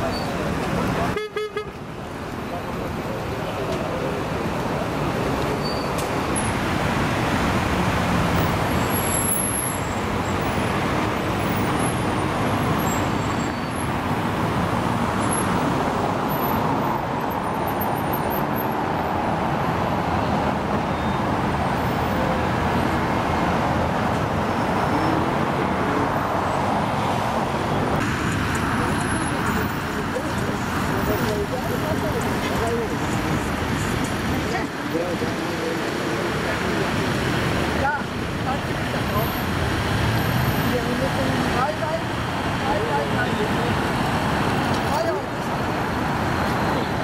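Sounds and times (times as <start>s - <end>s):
road traffic rumble: 0.0s - 47.0s.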